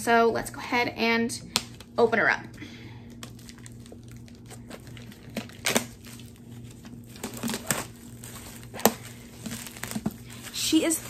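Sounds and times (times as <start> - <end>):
faint low hum: 0.0 - 11.0
wrapping crackling and snapping: 1.4 - 11.0.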